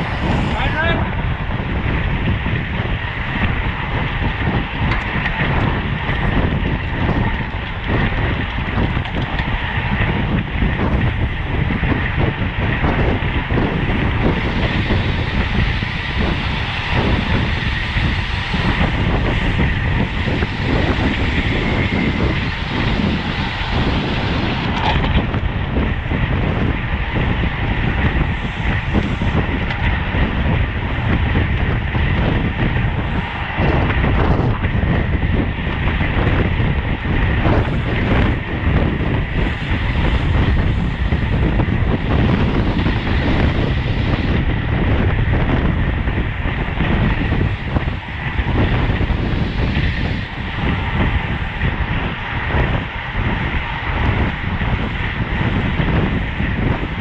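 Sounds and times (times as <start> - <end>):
road noise: 0.0 - 57.0
wind rush on microphone: 0.0 - 57.0.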